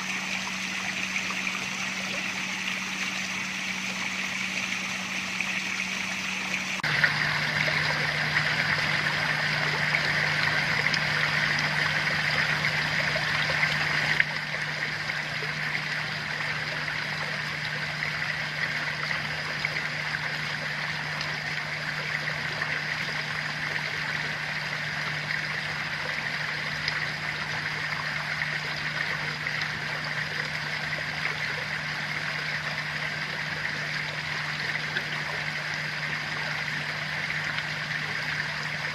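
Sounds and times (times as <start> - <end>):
low steady hum: 0.0 - 38.9
water running and splashing: 0.0 - 38.9.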